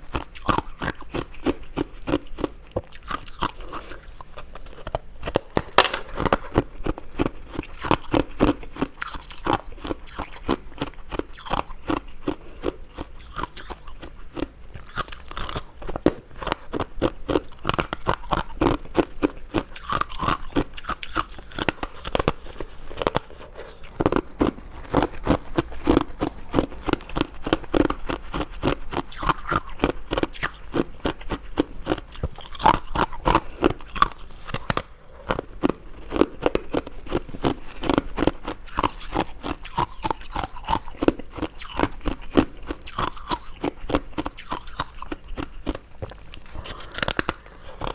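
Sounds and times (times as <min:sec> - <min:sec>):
chewing and crunching ice: 0:00.0 - 0:47.9.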